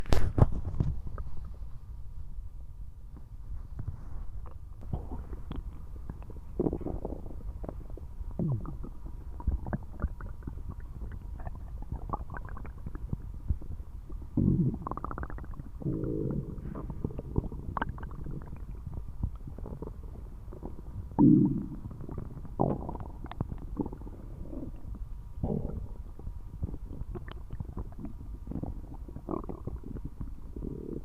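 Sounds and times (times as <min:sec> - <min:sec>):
stomach rumbling and gurgling: 0:00.0 - 0:31.0.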